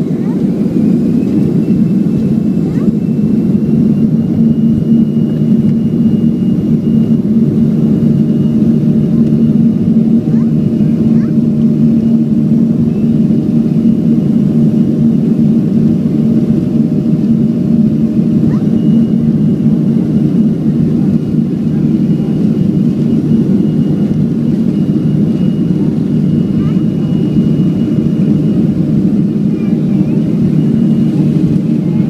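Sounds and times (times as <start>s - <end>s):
jet engines low rumble: 0.0s - 32.0s.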